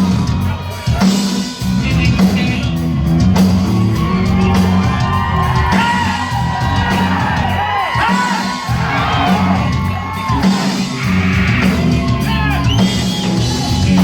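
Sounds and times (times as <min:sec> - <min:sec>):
hard rock band playing live: 0:00.0 - 0:14.0.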